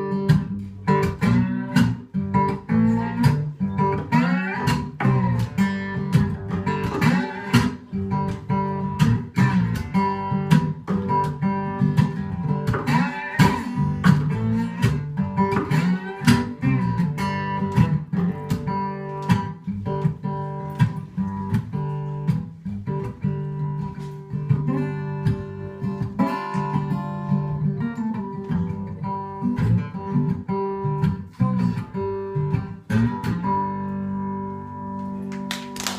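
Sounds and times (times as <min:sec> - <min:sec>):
acoustic blues guitar: 0:00.0 - 0:35.9.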